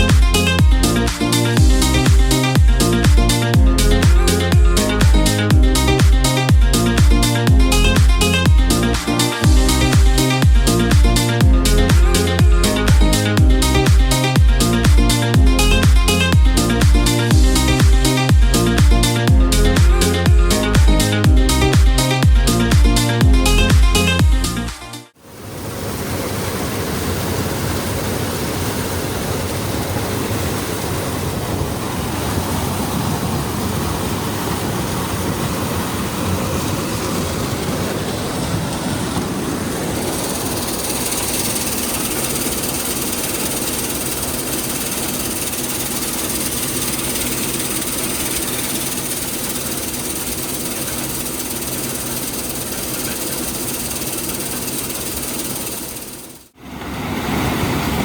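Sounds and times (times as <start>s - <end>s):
heavy diesel engine running: 0.0s - 24.3s, 28.0s - 56.6s.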